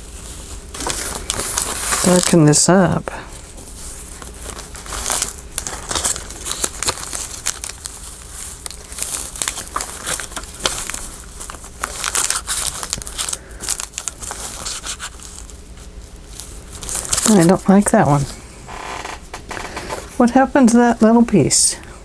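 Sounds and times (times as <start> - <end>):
paper rustling and crinkling: 0.0 - 21.2.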